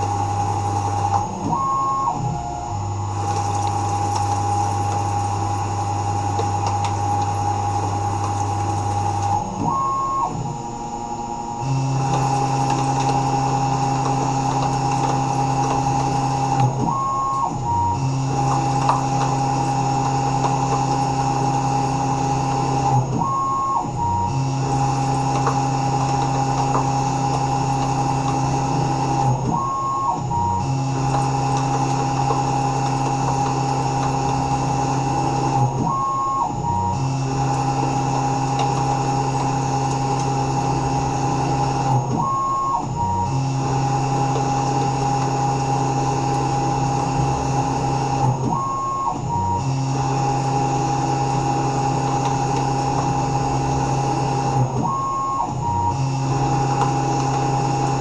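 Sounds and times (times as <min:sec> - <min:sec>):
metal cutting noise: 0:00.0 - 0:58.0
mill spindle motor whine: 0:00.0 - 0:58.0.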